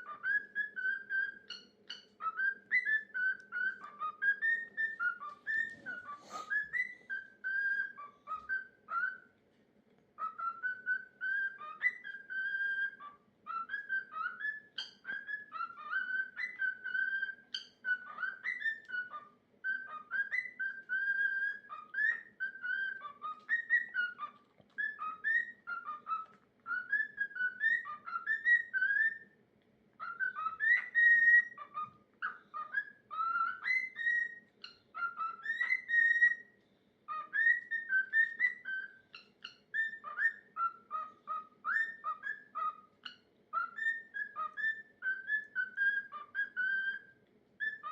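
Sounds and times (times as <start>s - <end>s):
cockatiel whistling song: 0.0s - 9.4s, 10.2s - 29.4s, 30.0s - 47.9s
faint steady hum: 0.0s - 47.9s.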